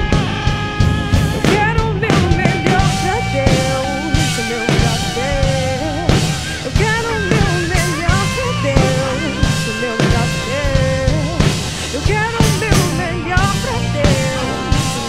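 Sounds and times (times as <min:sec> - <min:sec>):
bass: 0:00.0 - 0:15.0
drum kit: 0:00.0 - 0:15.0
wavering lead melody: 0:00.2 - 0:15.0.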